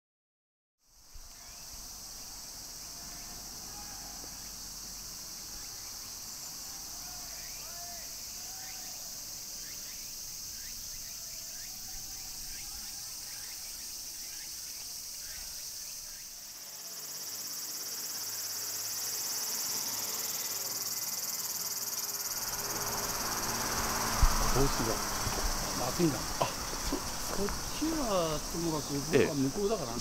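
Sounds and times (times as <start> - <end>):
cicadas droning: 0.8 - 30.0.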